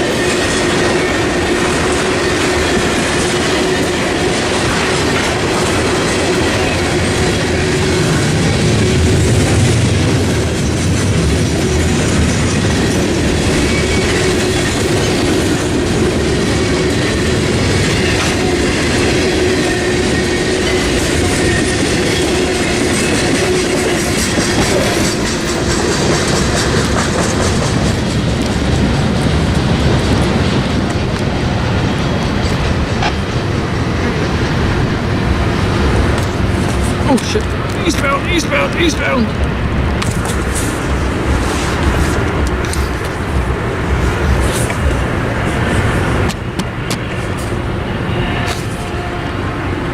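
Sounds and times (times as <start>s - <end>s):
freight train wheels clacking: 0.0s - 49.9s.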